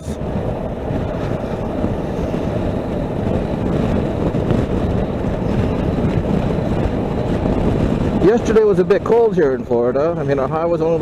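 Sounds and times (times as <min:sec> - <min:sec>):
motorcycle road noise: 0:00.0 - 0:11.0
wind rush: 0:00.0 - 0:11.0.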